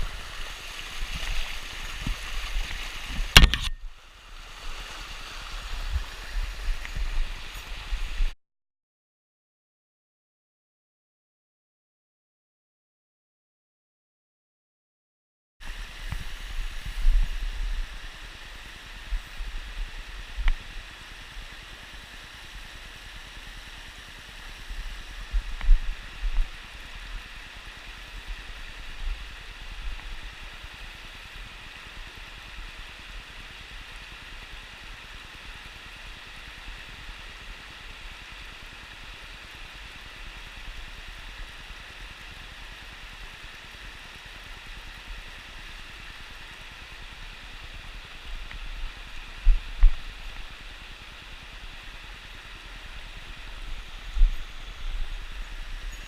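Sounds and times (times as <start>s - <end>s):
stream flowing over rocks: 0.0s - 8.3s, 15.6s - 56.0s.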